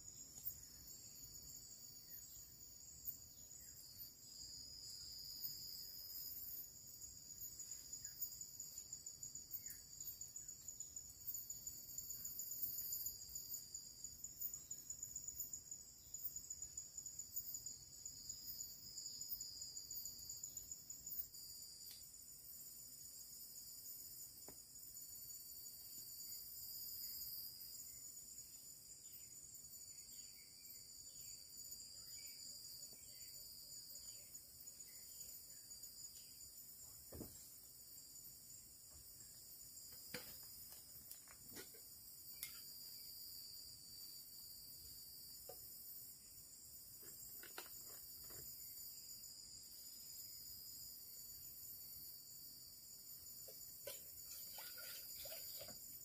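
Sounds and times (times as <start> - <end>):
forest insects trilling: 0.0 - 56.0.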